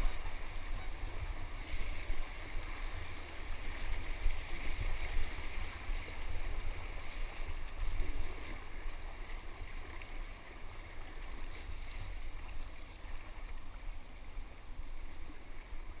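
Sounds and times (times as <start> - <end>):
paddle strokes splashing: 0.0 - 16.0.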